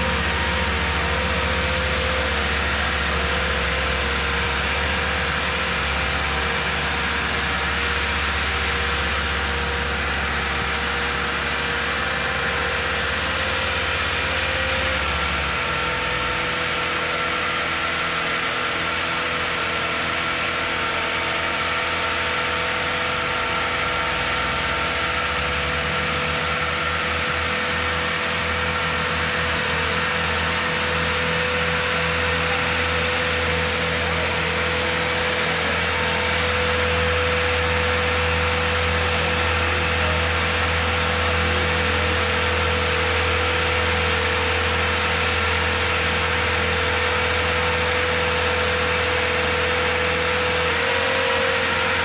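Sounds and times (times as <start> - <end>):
crane engine running: 0.0 - 52.0
steady whine: 0.0 - 52.0.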